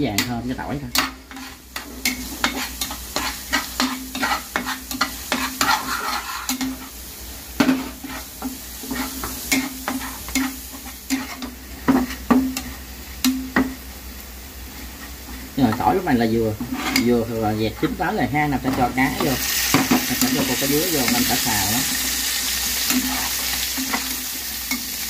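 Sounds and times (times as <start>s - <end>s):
garlic sizzling in oil: 0.0s - 25.0s
metal spatula scraping a pan: 0.1s - 7.0s, 7.6s - 12.8s, 14.9s - 25.0s.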